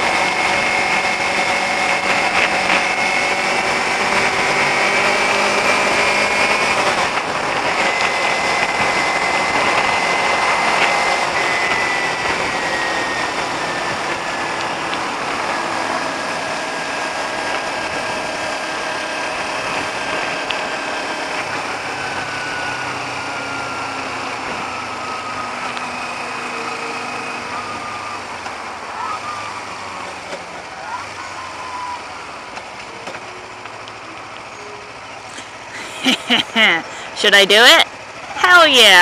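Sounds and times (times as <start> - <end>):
motorcycle engine whine: 0.0 - 39.0.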